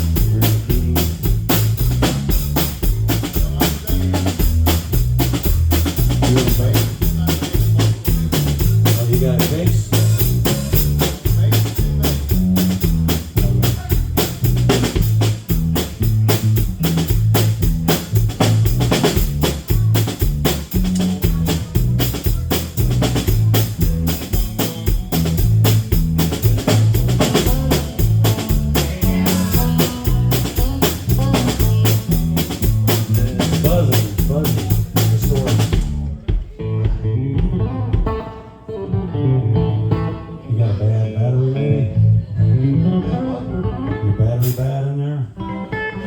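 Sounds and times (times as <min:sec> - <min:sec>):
drum kit groove: 0:00.0 - 0:38.4
distorted electric bass: 0:00.0 - 0:45.0.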